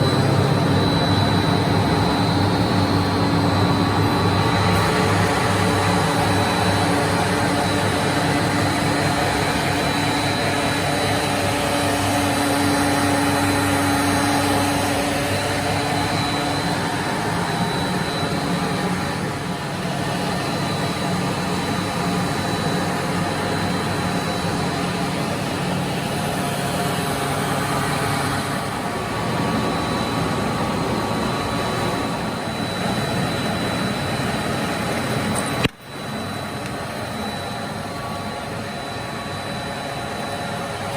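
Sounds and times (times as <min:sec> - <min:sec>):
machine humming: 0:00.0 - 0:40.9
thin high whine: 0:00.0 - 0:40.9.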